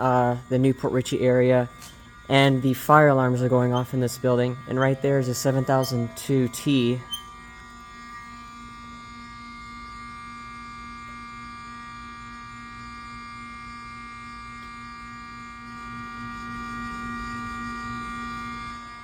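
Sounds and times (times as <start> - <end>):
fire alarm horn buzzing: 0.0 - 19.0.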